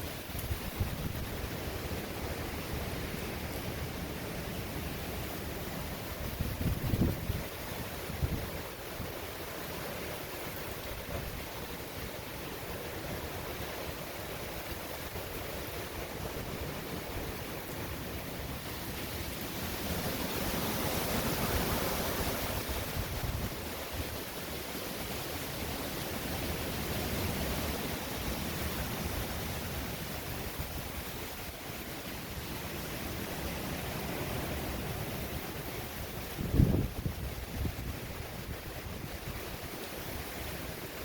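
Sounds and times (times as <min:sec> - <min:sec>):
heavy rain: 0:00.0 - 0:41.0
hurricane wind gusting: 0:00.0 - 0:41.0.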